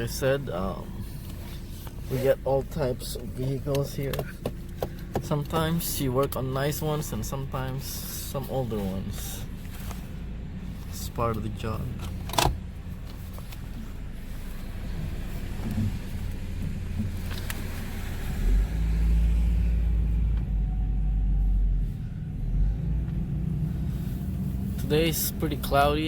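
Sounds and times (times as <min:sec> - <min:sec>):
motor vehicle rumbling: 0:00.0 - 0:26.0.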